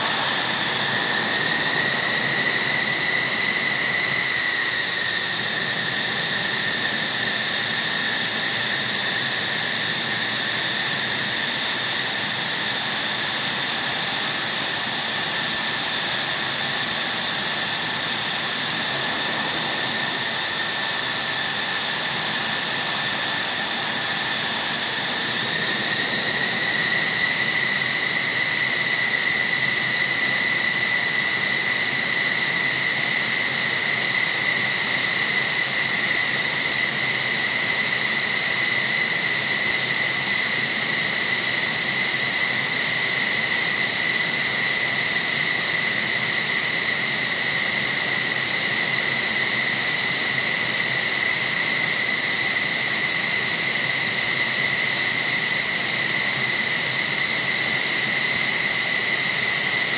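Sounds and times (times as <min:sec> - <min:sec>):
jet turbines whining: 0:00.0 - 0:59.9.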